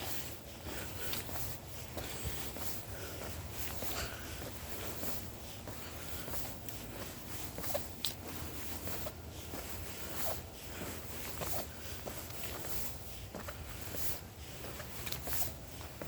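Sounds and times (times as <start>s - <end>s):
footsteps on forest floor: 0.0s - 16.0s.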